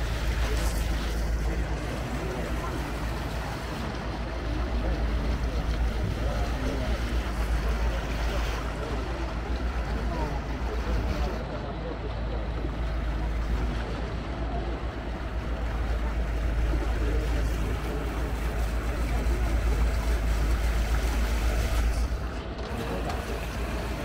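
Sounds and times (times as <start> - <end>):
water washing: 0.0 - 24.0.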